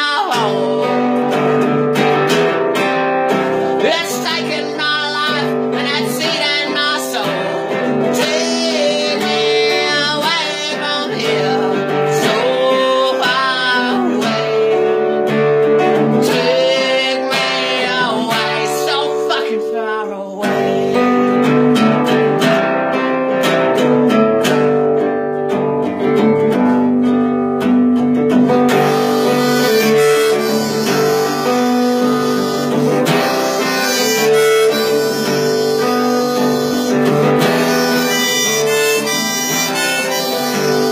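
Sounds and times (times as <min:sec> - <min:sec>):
harmonica playing blues: 0:00.0 - 0:22.6, 0:28.5 - 0:40.9
acoustic guitar: 0:00.0 - 0:40.9.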